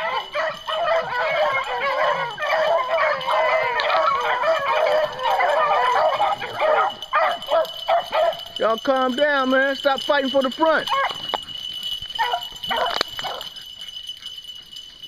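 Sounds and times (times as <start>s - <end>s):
pack of dogs baying: 0.0s - 8.6s, 10.8s - 14.7s.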